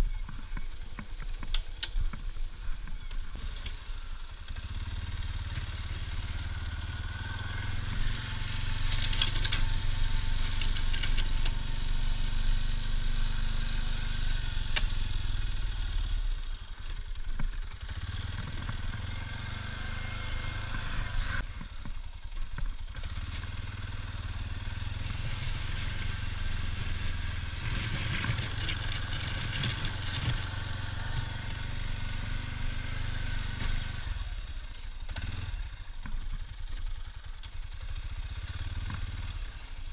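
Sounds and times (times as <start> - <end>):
atv engine running under load: 2.1 - 39.9.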